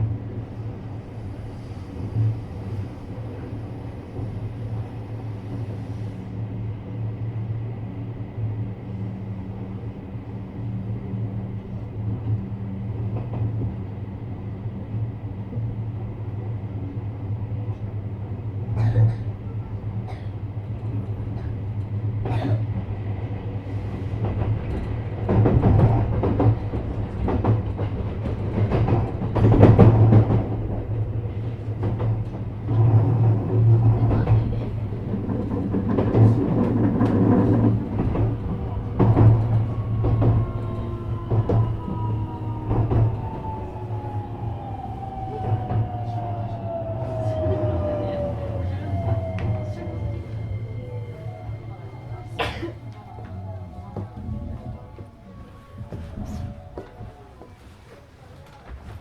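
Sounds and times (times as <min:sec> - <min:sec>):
electric train humming: 0:00.0 - 0:59.0
rail rumbling: 0:00.0 - 0:59.0.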